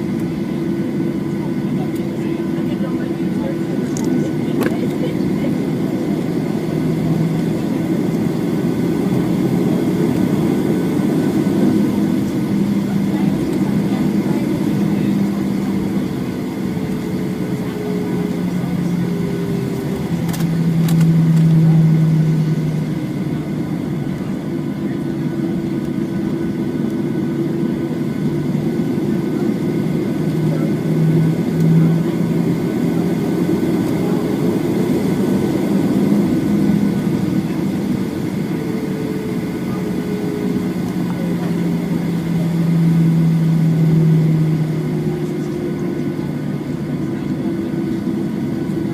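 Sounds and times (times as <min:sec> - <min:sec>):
jet engines from inside cabin: 0:00.0 - 0:48.9.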